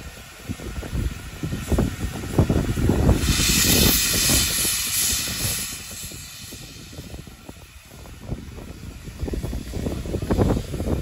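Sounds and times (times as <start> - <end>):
steam locomotive hissing steam: 0.0 - 11.0
wind rumble on microphone: 0.0 - 11.0.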